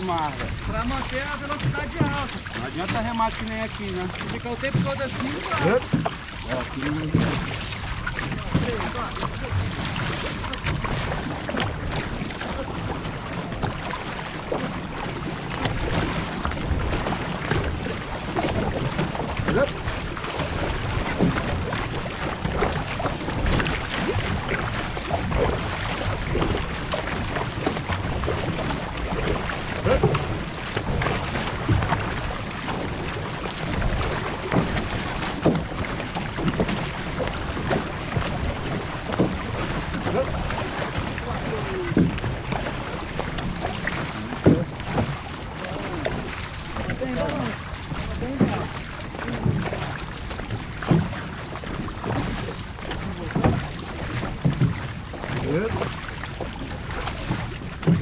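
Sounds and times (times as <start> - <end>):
paddle splashes: 0.0 - 58.0
water rushing along hull: 0.0 - 58.0.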